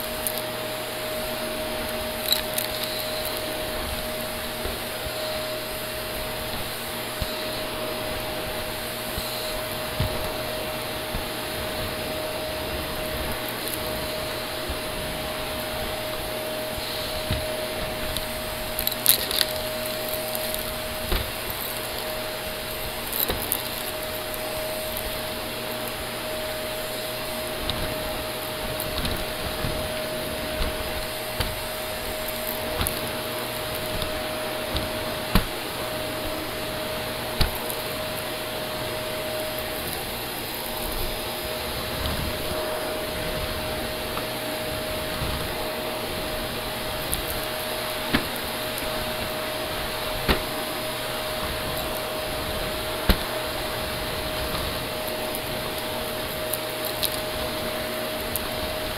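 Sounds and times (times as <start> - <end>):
debris crackling in vacuum: 0.0 - 58.9
vacuum cleaner motor whine: 0.0 - 58.9.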